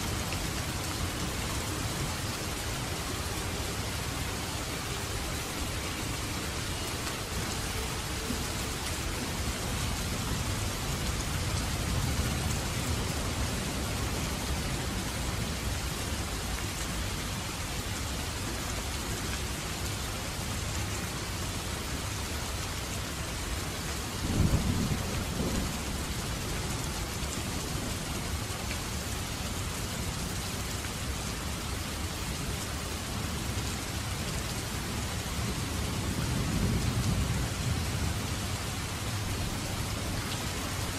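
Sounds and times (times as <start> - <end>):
rain hissing: 0.0 - 40.9.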